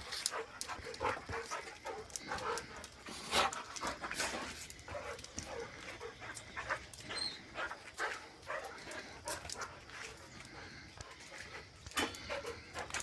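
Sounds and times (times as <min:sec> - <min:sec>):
dogs growling and yipping: 0:00.0 - 0:13.0
paws scrabbling: 0:00.0 - 0:13.0.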